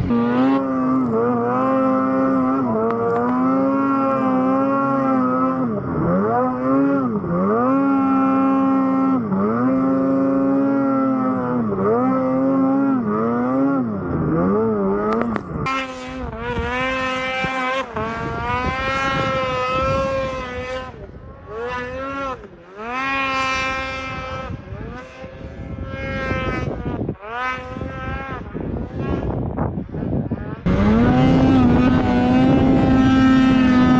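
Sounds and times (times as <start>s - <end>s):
snowmobile engine revving: 0.0s - 33.9s.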